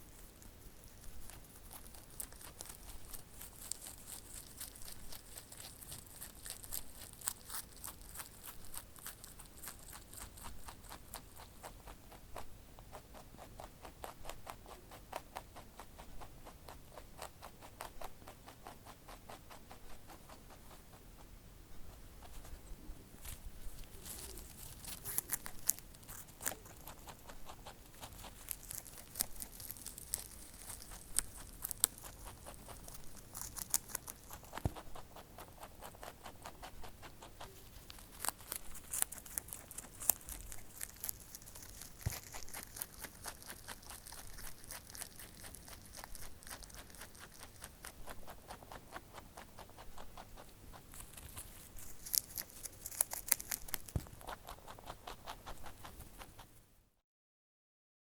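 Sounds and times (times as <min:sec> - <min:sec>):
crunchy chewing and nibbling: 0:00.0 - 0:56.6.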